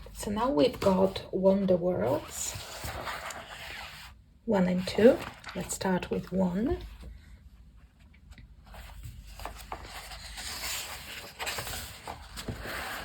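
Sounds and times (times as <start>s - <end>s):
paper rustling: 0.6s - 4.1s, 4.7s - 7.0s, 8.0s - 13.0s.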